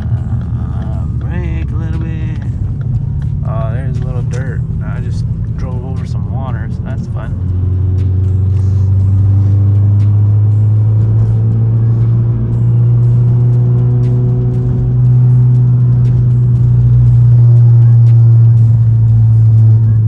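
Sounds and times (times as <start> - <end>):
car engine droning under load: 0.0 - 20.0.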